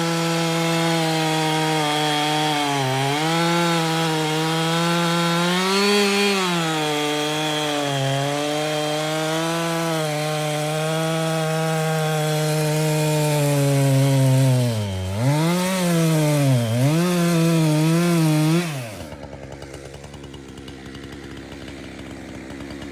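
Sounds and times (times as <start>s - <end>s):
chainsaw cutting log: 0.0s - 22.9s.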